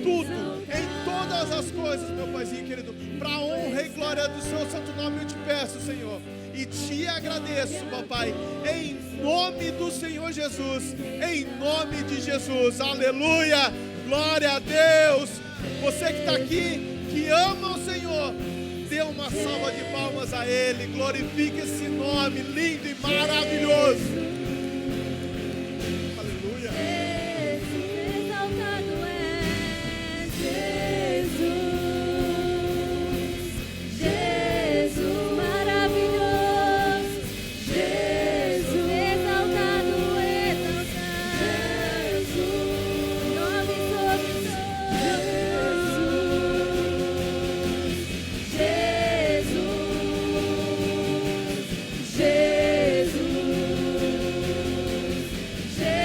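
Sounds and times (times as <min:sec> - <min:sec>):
group of voices singing: 0:00.0 - 0:56.0
instrumental accompaniment: 0:00.0 - 0:56.0.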